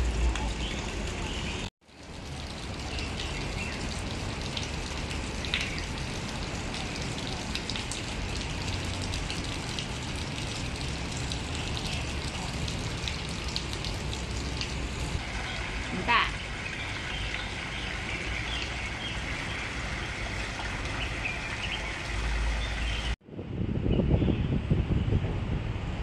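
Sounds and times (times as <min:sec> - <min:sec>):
fountain water splashing: 0:00.0 - 0:23.2.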